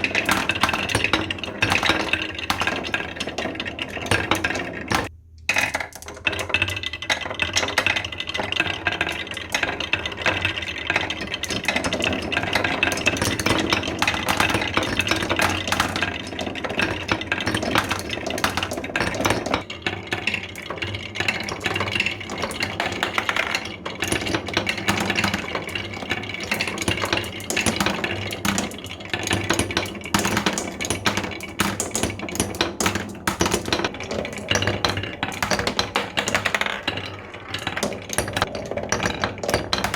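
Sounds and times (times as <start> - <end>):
marbles rattling down wooden run: 0.0 - 39.9.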